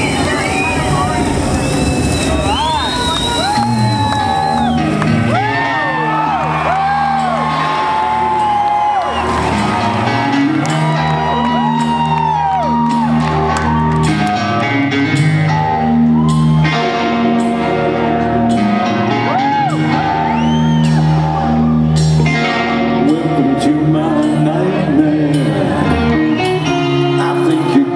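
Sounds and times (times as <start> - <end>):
crowd whooping and shouting: 0.0 - 22.4, 25.8 - 27.2
held bass notes: 0.0 - 27.9
live rock band: 0.0 - 27.9.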